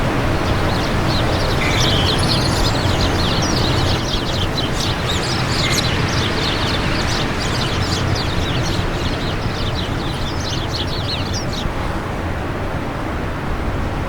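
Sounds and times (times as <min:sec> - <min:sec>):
small birds twittering: 0:00.0 - 0:12.1
wind: 0:00.0 - 0:14.0.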